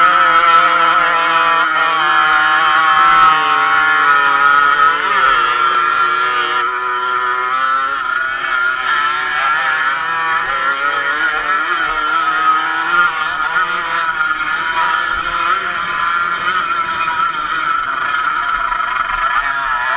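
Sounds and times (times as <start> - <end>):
off-road motorcycle engine revving: 0.0 - 19.9.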